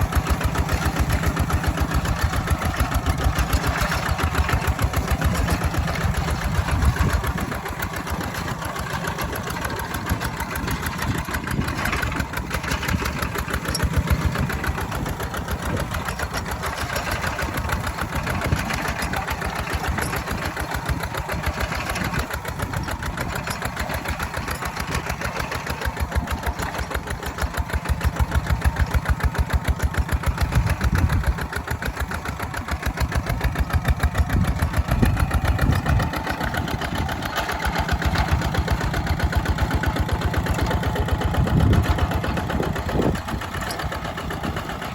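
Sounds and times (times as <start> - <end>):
walking tractor engine chugging: 0.0 - 44.9.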